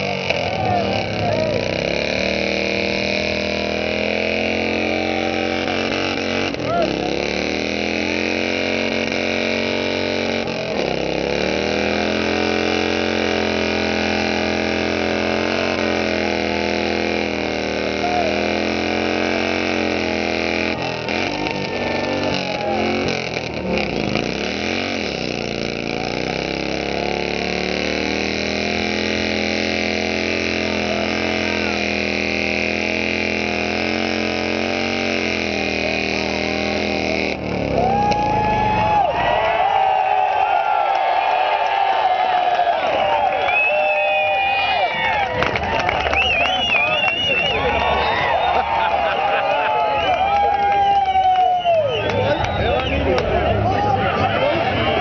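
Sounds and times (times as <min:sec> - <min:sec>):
motorcycle engine revving high: 0:00.0 - 0:55.0.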